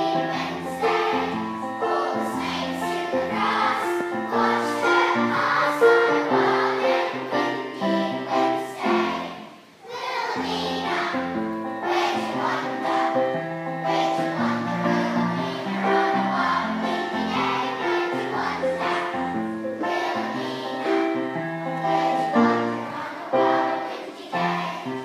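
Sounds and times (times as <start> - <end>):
children's choir singing: 0.0 - 25.0.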